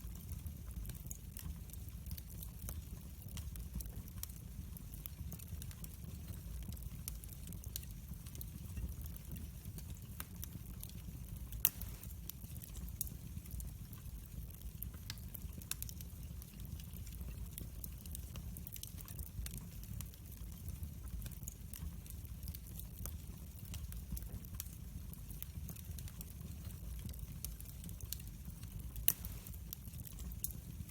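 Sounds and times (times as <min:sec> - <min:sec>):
fireplace fire crackling and popping: 0:00.0 - 0:30.9.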